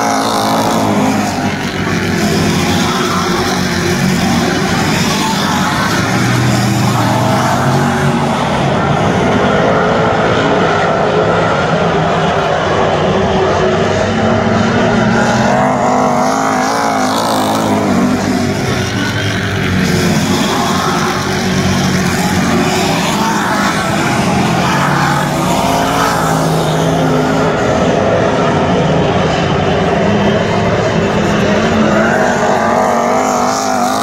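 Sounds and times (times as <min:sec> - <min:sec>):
race car engines: 0:00.0 - 0:34.0.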